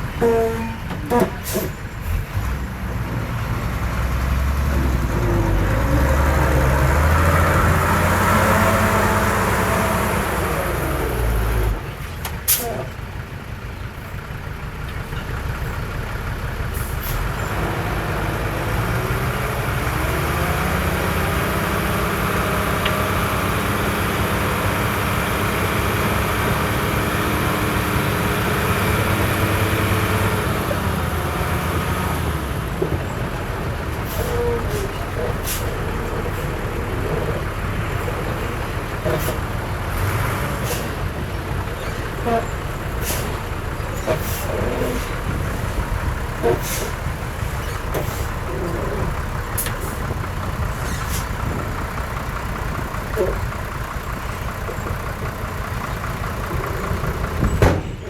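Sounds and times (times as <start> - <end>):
heavy diesel engine working: 0.0 - 58.0.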